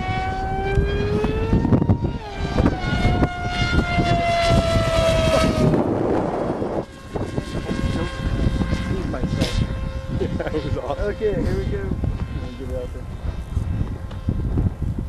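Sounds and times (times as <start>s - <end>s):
model plane motor whining: 0.0s - 14.9s.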